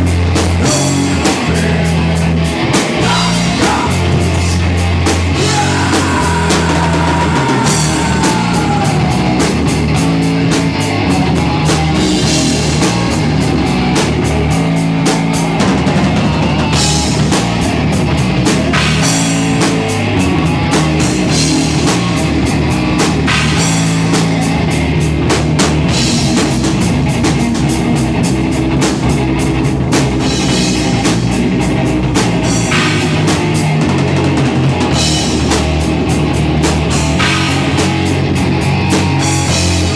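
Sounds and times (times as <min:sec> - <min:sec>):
electric guitar: 0:00.0 - 0:39.9
rapid drum and cymbal hits: 0:00.0 - 0:39.9.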